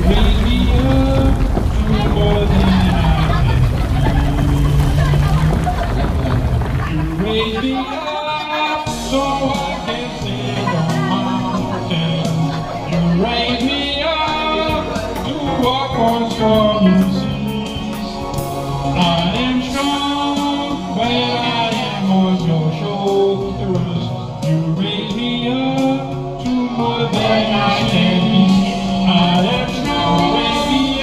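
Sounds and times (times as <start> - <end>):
man singing into microphone: 0.0 - 6.2, 6.8 - 31.0
recorded backing track: 0.0 - 31.0.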